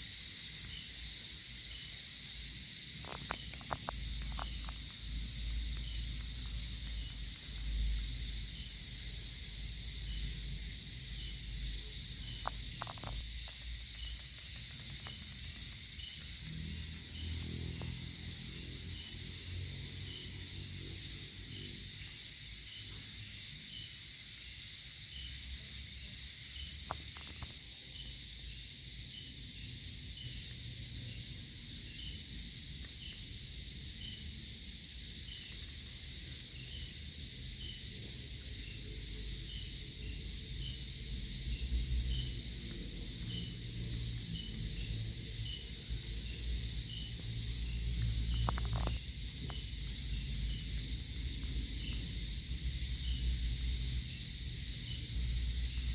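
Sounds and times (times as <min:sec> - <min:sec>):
insects chirping: 0:00.0 - 0:55.9
rapid insect trill: 0:00.0 - 0:55.9.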